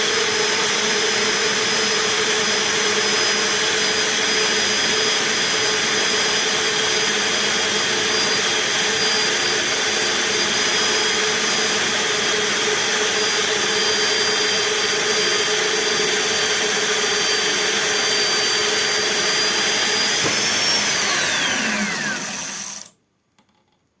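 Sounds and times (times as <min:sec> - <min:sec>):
power tool motor whining: 0:01.8 - 0:23.0.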